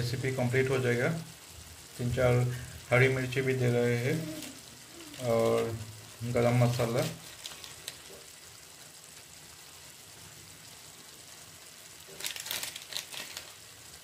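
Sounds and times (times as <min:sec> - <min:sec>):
curry simmering hiss: 0:00.0 - 0:14.0.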